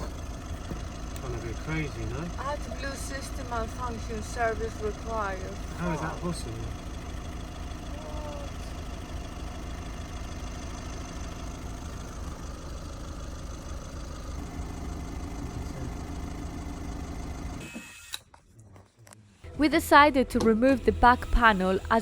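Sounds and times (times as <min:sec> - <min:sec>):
diesel engine idling: 0:00.0 - 0:17.6, 0:19.4 - 0:22.0.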